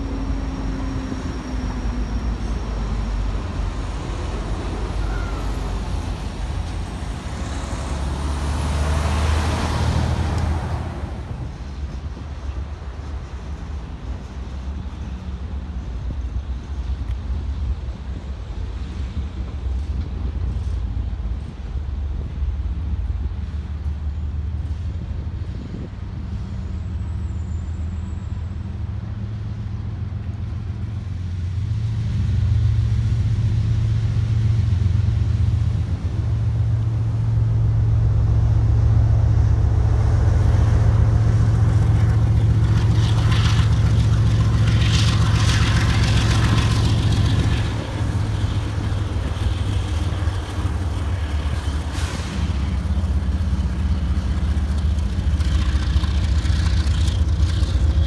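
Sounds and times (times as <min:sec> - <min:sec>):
diesel locomotive engine rumble: 0:00.0 - 0:58.0
wheels rattling on rails: 0:00.0 - 0:58.0.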